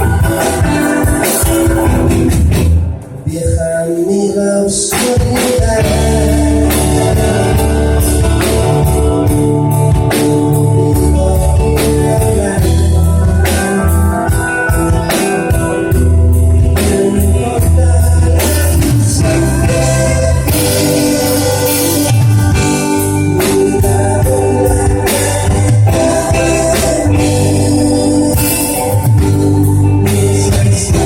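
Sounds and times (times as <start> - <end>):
pop-rock song with singing: 0.0 - 31.0.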